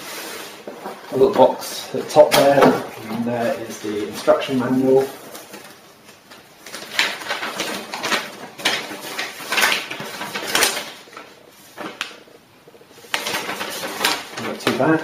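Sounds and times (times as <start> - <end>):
paper rustling and crackling: 0.0 - 15.0.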